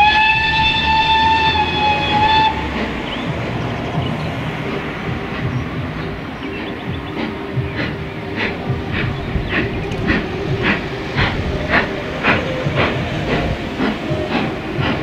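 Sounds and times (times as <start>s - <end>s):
steam locomotive whistle: 0.0s - 15.0s
train rumbling: 0.0s - 15.0s.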